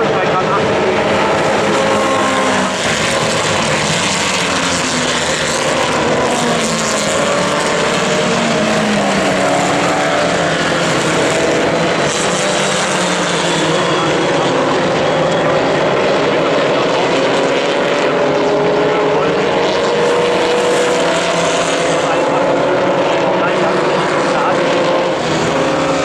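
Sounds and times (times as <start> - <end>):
race car engines: 0.0 - 26.0.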